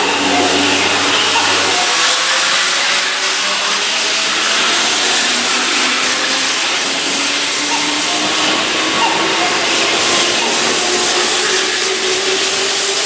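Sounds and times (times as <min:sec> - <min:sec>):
train wheel and running noise: 0:00.0 - 0:13.0.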